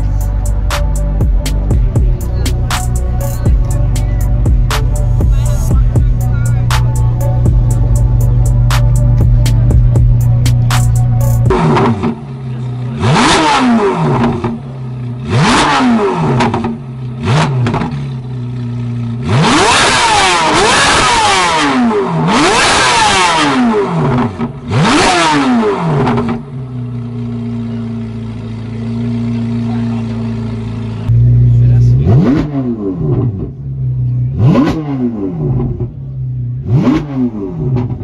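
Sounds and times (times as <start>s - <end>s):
car engine revving and idling: 0.0s - 38.0s.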